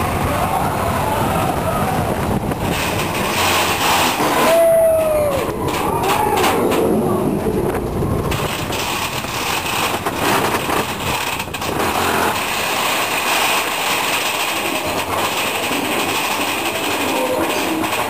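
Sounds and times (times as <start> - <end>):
roller coaster wheels rattling: 0.0 - 18.0
track clacks: 0.0 - 18.0.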